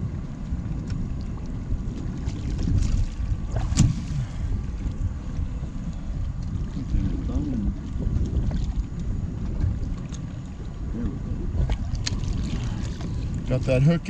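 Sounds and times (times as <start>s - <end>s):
water sloshing against boat hull: 0.0s - 14.0s
wind buffeting microphone: 0.0s - 14.0s.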